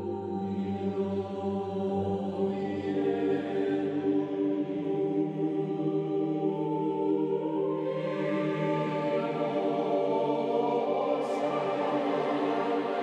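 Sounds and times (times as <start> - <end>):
slow sustained chords music: 0.0 - 13.0.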